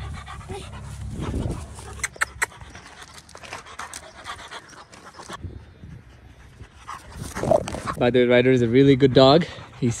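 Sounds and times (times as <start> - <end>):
dog panting: 0.0 - 8.0, 8.6 - 10.0.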